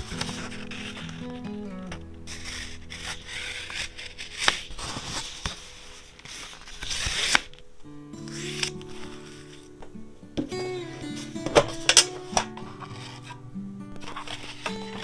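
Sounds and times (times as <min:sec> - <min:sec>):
paper rustling and scraping: 0:00.0 - 0:09.8, 0:10.5 - 0:13.4, 0:14.0 - 0:15.0.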